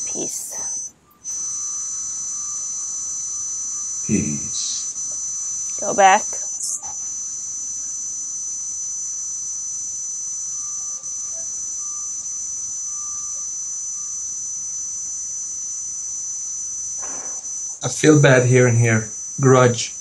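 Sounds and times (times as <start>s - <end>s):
high-pitched electrical whine: 0.0s - 20.0s
low electrical tone: 0.0s - 20.0s.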